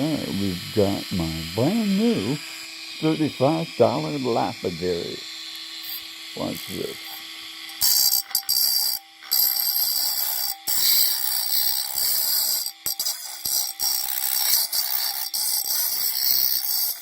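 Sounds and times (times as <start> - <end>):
motor whine: 0.0 - 14.4
harsh high-pitched grinding rasp: 0.0 - 17.0.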